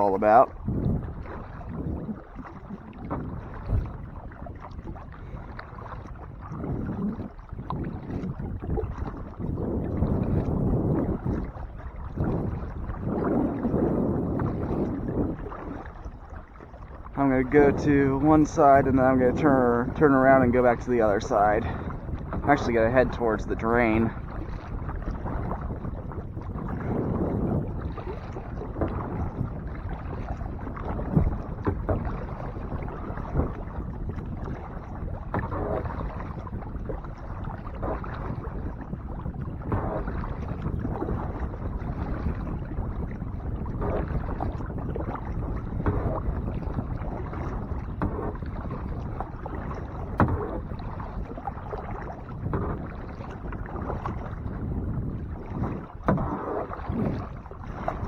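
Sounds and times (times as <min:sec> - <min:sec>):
paddle splashing in water: 0:00.0 - 0:58.0.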